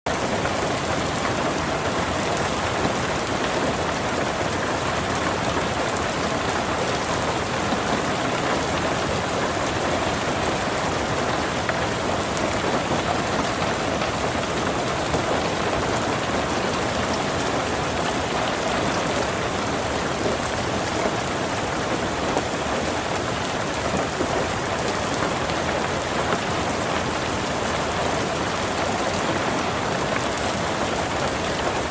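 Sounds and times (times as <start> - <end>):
steady rain falling: 0.1 - 31.9.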